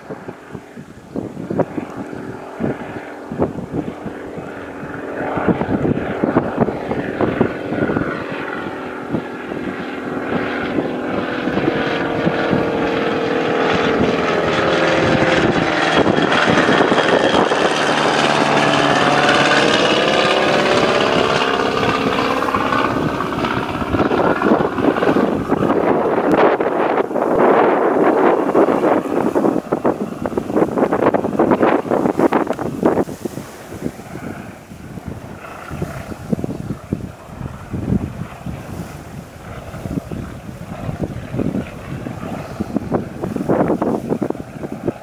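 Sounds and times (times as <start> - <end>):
propeller aircraft passing by: 0.0 - 45.0
wind buffeting microphone: 0.0 - 45.0.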